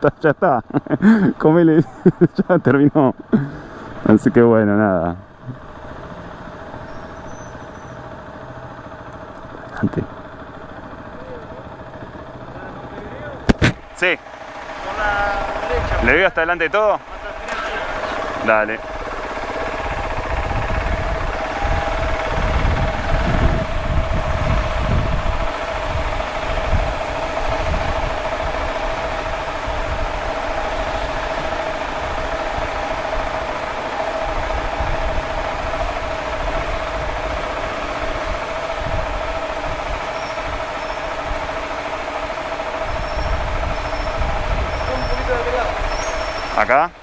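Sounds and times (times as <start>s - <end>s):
constant hum: 0.0s - 47.0s
motorcycle engine running at low revs: 3.1s - 47.0s.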